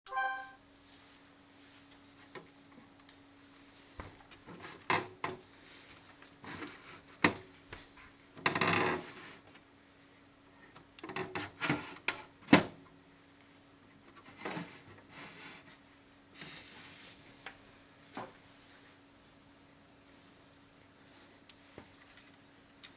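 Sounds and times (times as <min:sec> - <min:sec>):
faint steady hum: 0:00.1 - 0:22.9.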